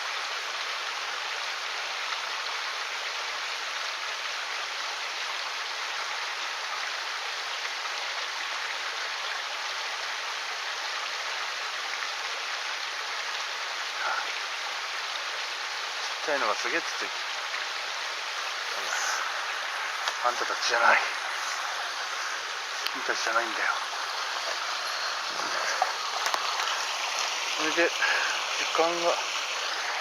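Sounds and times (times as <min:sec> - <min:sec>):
stream current rushing: 0:00.0 - 0:30.0.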